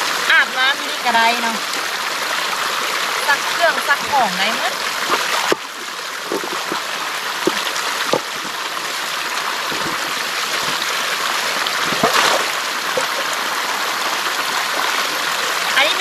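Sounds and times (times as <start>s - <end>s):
stream flowing and trickling: 0.0s - 16.0s.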